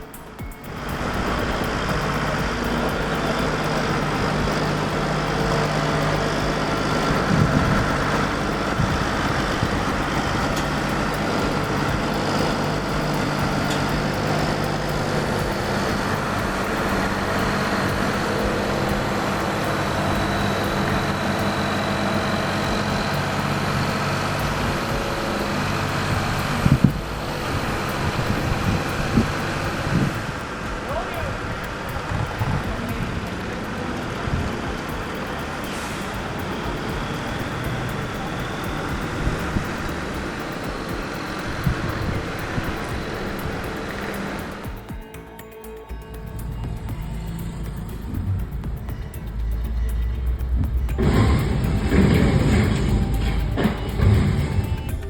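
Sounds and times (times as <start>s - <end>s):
truck engine running low: 0.0s - 44.9s, 46.2s - 55.0s.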